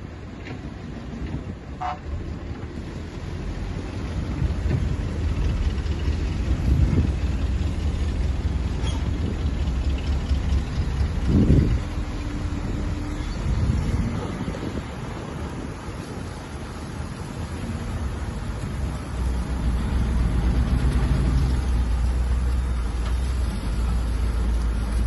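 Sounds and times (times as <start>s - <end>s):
heavy machinery diesel engine rumbling: 0.0s - 25.0s.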